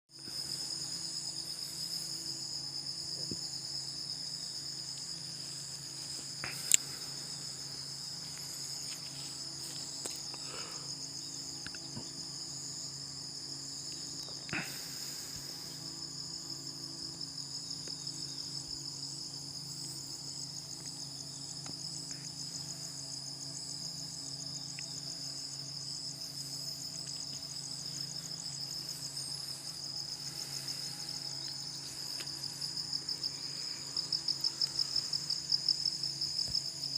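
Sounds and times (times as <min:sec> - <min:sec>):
insects chirring in high trill: 0:00.1 - 0:36.9.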